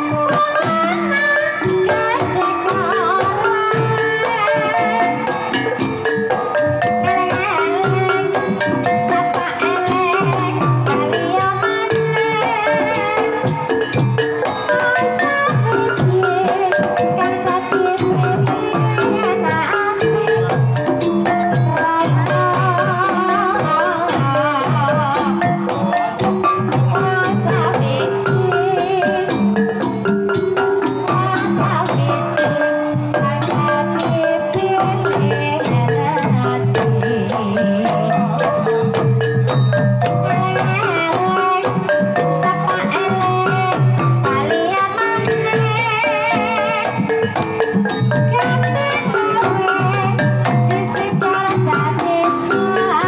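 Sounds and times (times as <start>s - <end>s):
woman singing with vibrato: 0.0s - 5.6s, 6.6s - 29.9s, 30.8s - 38.9s, 40.0s - 47.4s, 48.1s - 53.0s
hand drum: 0.0s - 53.0s.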